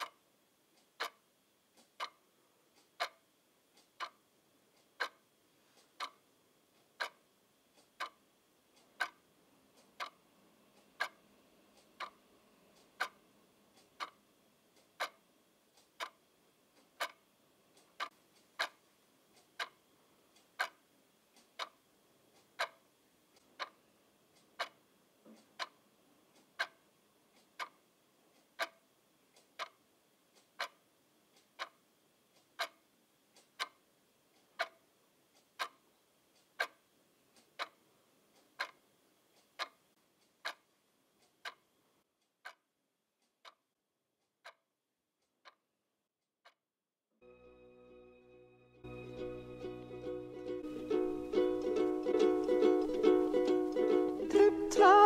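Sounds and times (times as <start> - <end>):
clock ticking: 0.0 - 45.6, 50.4 - 55.0.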